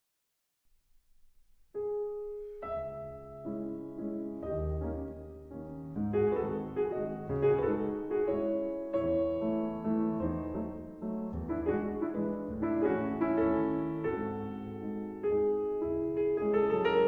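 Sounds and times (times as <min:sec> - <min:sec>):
background piano music: 0:01.7 - 0:17.0.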